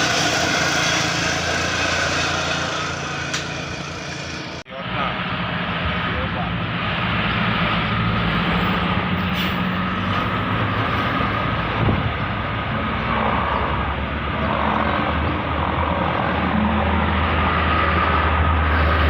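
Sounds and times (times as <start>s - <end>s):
heavy engine rumble: 0.0s - 19.0s
road traffic: 0.0s - 19.0s.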